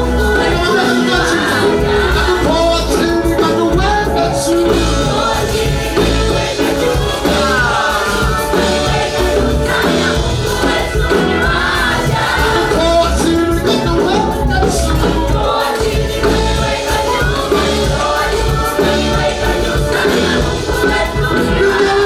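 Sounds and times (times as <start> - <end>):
gospel choir singing with band: 0.0 - 22.0.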